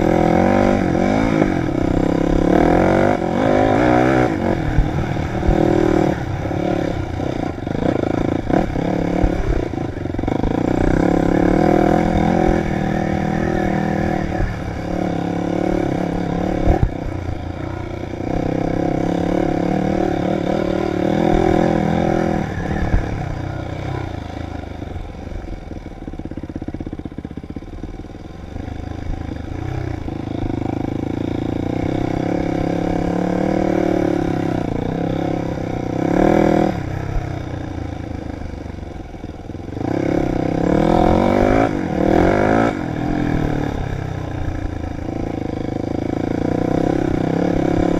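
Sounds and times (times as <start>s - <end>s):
dirt bike engine revving: 0.0s - 25.0s, 29.0s - 38.4s, 39.1s - 47.9s.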